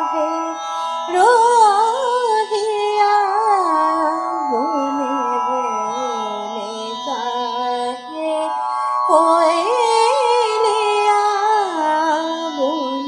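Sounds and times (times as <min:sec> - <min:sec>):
ornamented sliding melody: 0:00.0 - 0:13.0.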